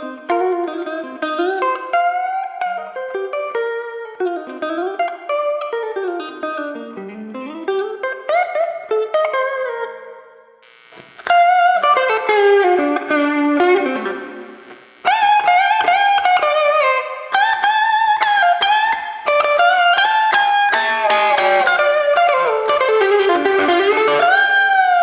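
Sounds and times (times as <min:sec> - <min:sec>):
overdriven electric guitar blues licks: 0:00.0 - 0:25.0.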